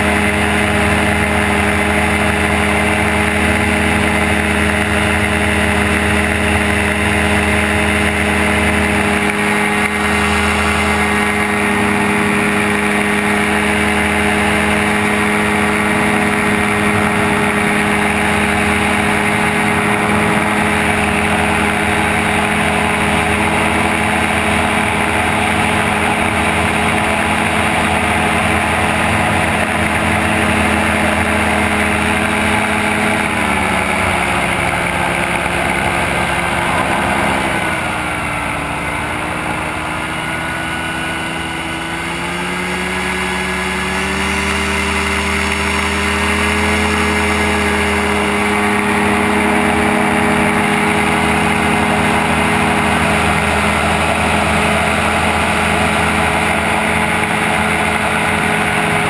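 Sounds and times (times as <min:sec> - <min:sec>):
aircraft engine and propeller: 0:00.0 - 0:59.0.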